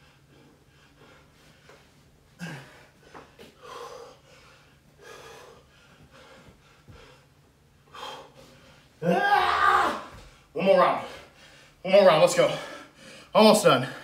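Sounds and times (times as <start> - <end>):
man breathing heavily: 0.0 - 9.1, 10.0 - 14.0.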